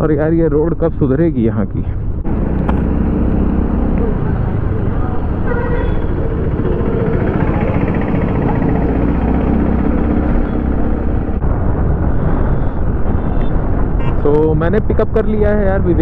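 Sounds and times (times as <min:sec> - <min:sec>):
scooter road and wind rumble: 0:01.9 - 0:16.0.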